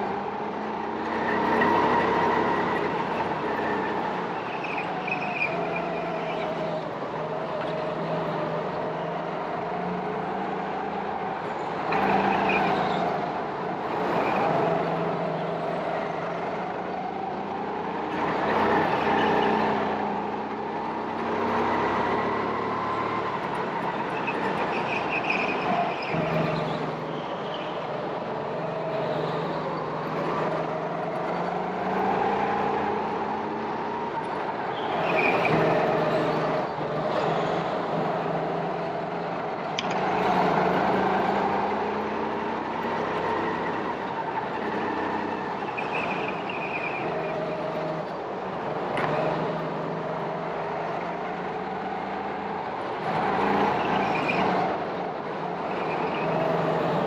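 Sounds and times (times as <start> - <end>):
go-kart engines revving: 0.0 - 57.0.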